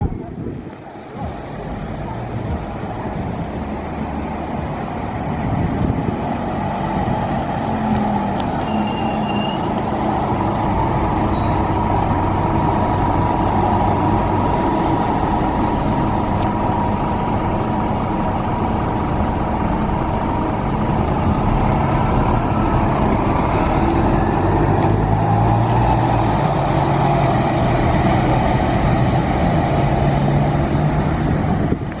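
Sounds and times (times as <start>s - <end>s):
bus engine running: 0.0s - 32.0s
road noise: 0.0s - 32.0s.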